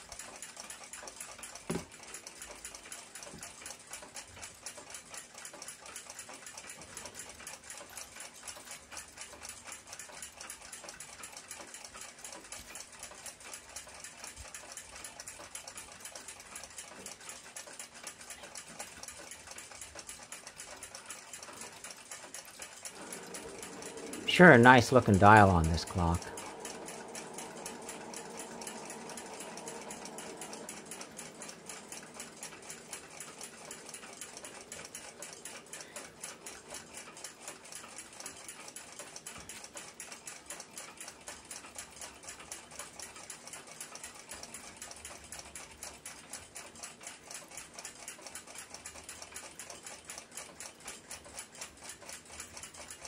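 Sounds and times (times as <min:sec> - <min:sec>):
clock ticking rapidly: 0:00.0 - 0:53.0.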